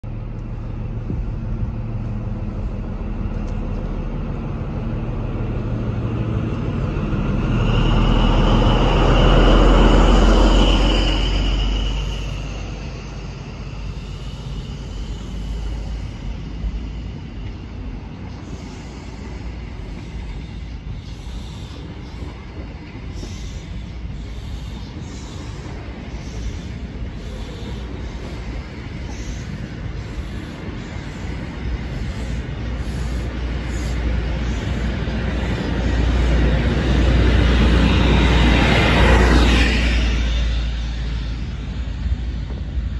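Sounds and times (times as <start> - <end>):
diesel train rumble: 0.0 - 42.9
high whine of power car: 0.2 - 42.9.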